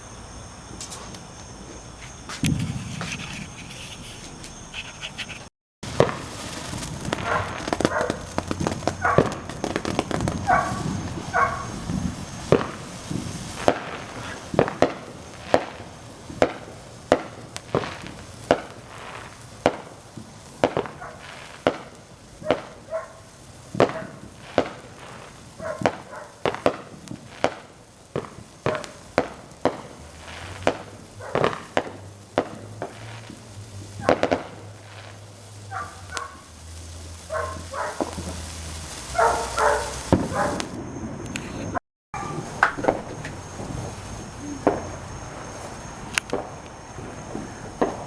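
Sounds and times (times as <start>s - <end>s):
fireworks cracking and popping: 0.7s - 48.0s.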